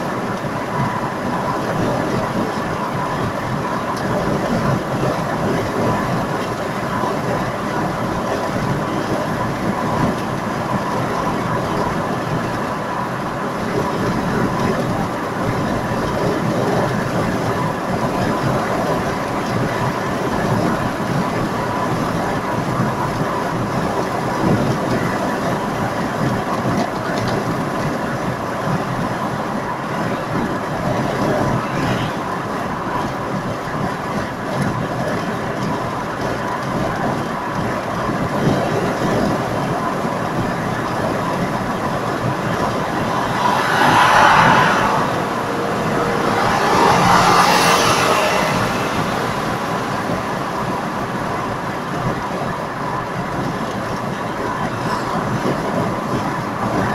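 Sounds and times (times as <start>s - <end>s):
wind noise: 0.0s - 56.9s.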